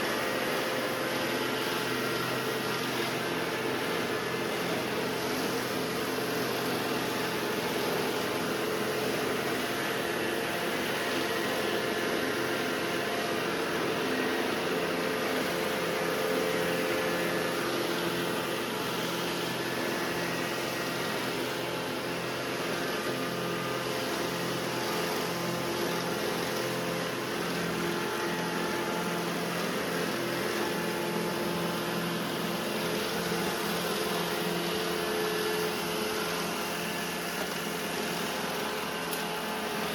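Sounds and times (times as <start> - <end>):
robot vacuum motor and brush whir: 0.0 - 39.9.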